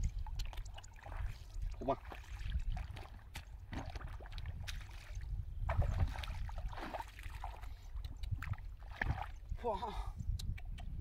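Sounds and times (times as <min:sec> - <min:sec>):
bare feet splashing in mud: 0:00.0 - 0:09.4.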